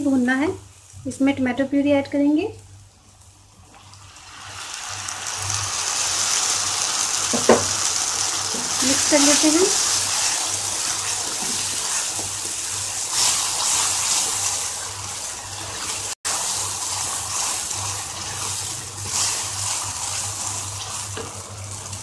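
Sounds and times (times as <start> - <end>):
tomato puree sizzling in hot oil: 0.0 - 22.0.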